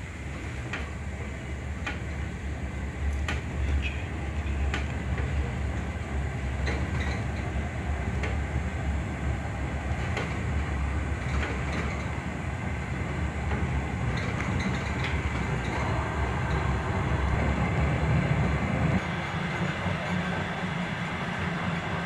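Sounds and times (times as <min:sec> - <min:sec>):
train rumbling: 0:00.0 - 0:22.0
wheels clicking over rail joints: 0:00.1 - 0:19.0.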